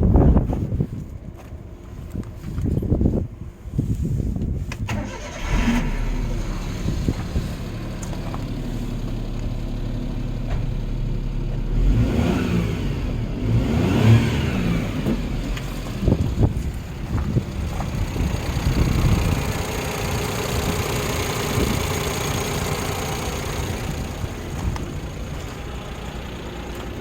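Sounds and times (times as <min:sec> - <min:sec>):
car engine starting and revving: 0:04.9 - 0:27.0.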